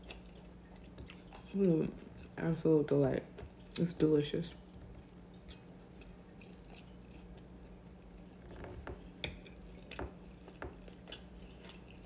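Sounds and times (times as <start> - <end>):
wet chewing: 0.0 - 2.4, 4.5 - 12.0.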